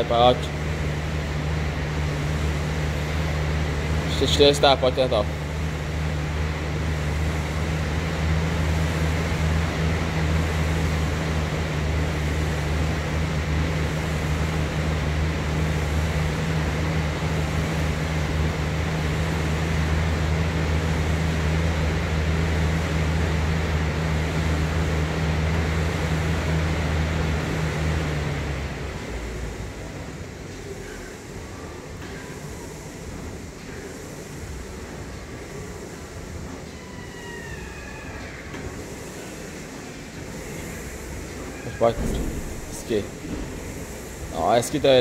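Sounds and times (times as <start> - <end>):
flywheel fan whirring: 0.0 - 45.0.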